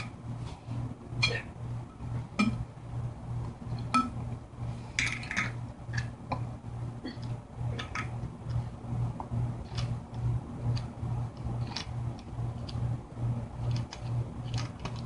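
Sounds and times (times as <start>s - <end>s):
steady low pulsing hum: 0.0s - 15.0s.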